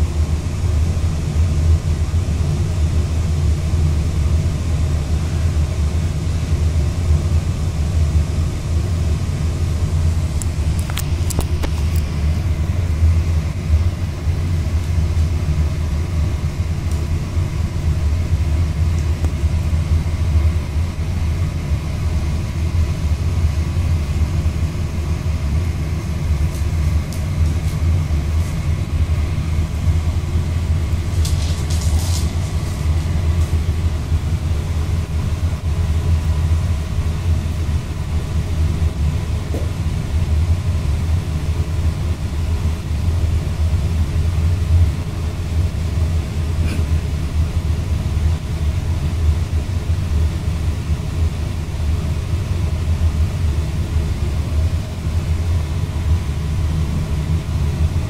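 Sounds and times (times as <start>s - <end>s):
low rumble with hum: 0.0s - 58.0s.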